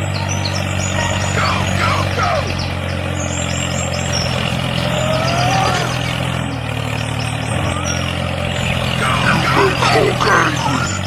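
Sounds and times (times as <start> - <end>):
whistle-like glide: 0.0 - 9.7
motor humming: 0.0 - 11.0.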